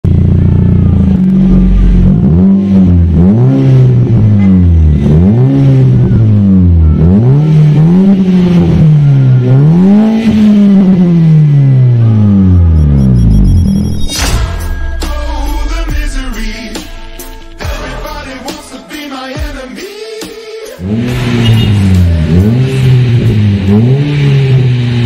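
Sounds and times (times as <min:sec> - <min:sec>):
car engine revving: 0:00.0 - 0:19.1, 0:20.8 - 0:25.0.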